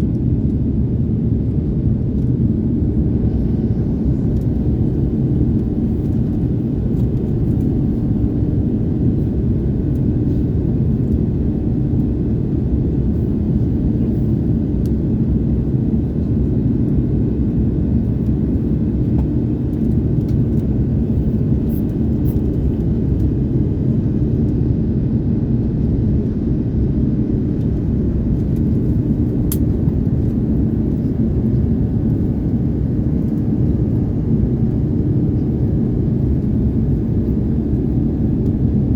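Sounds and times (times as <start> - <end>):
airplane cabin noise in flight: 0.0 - 38.9
faint held hum: 0.0 - 38.9.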